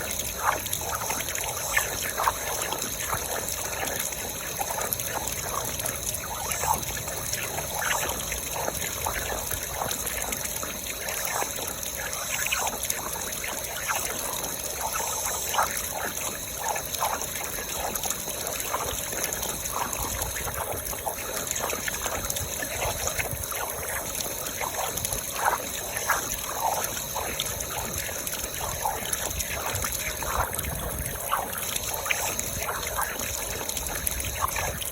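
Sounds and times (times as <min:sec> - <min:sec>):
water plops: 0:00.0 - 0:34.9
water trickling: 0:00.0 - 0:34.9.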